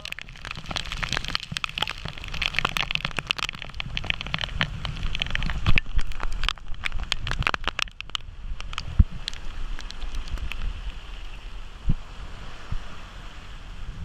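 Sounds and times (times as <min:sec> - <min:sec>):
sharp raindrops hitting nearby: 0:00.0 - 0:11.6
heavy rain: 0:00.0 - 0:13.8.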